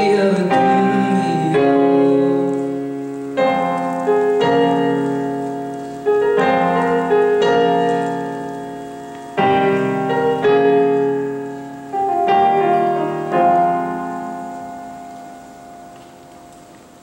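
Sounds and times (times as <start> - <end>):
keyboard piano chords: 0.0 - 17.0.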